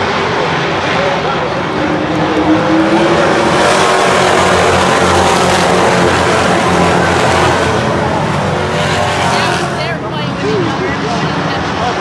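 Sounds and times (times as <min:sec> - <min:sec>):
race cars racing past: 0:00.0 - 0:12.0.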